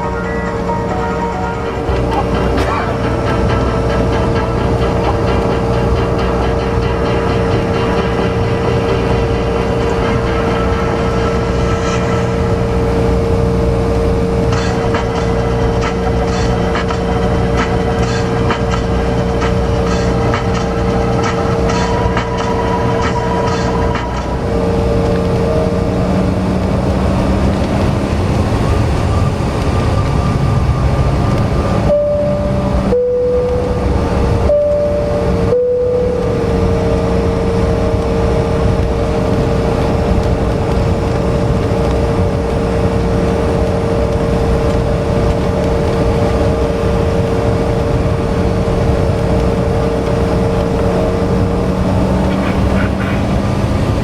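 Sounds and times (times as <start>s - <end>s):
jet cabin engine roar: 0.0s - 54.0s.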